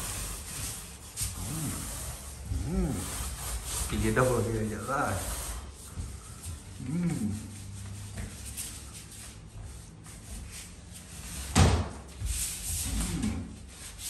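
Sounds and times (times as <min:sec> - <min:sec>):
paint roller rasping on wall: 0:00.0 - 0:14.0.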